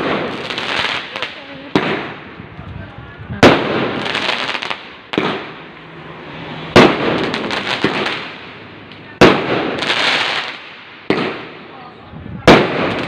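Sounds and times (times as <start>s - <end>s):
firework bangs: 0.0s - 11.8s, 12.4s - 13.0s
firework crackling: 0.0s - 13.0s.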